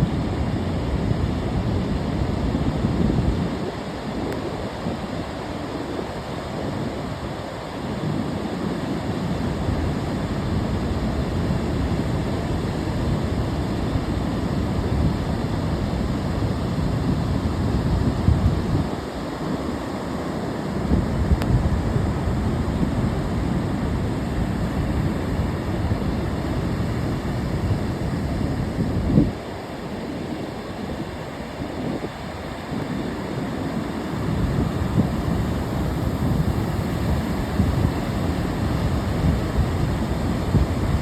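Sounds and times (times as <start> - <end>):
wind rumbling on microphone: 0.0 - 41.0
ocean surf breaking: 3.5 - 41.0.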